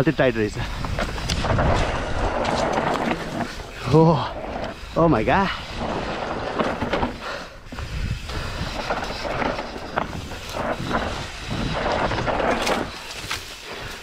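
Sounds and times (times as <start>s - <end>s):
bike tyres crunching on dirt: 0.0s - 14.0s
wind rumble on microphone: 0.5s - 14.0s
bike knocking and rattling: 0.6s - 14.0s.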